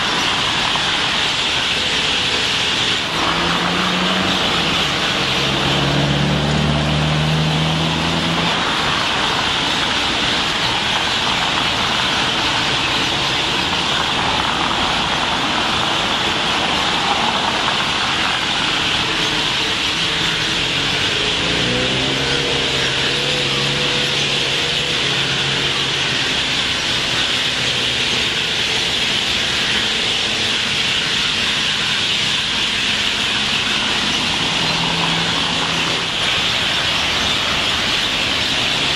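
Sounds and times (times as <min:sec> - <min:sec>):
flock of birds chattering: 0:00.0 - 0:38.9
passing vehicle engines: 0:00.0 - 0:38.9.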